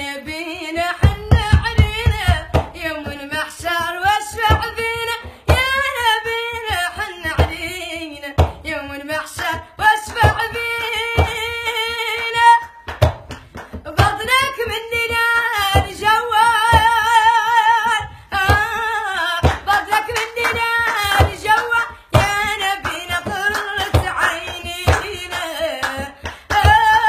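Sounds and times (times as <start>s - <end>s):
woman singing with vibrato: 0.0s - 27.0s.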